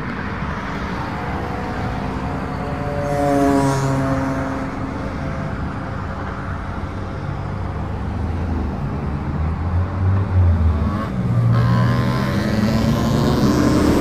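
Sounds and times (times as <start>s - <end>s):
road traffic passing: 0.0s - 14.0s
vehicle engine hum: 0.0s - 14.0s.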